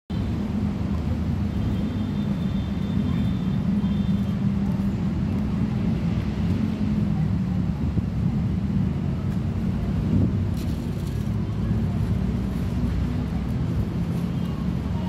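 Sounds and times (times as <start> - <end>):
low outdoor rumble: 0.1 - 15.0.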